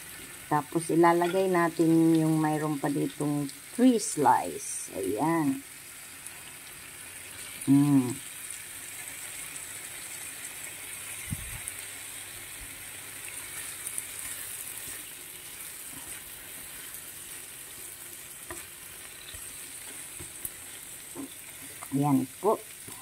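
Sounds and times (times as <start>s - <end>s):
ham sizzling in a pan: 0.0s - 23.0s.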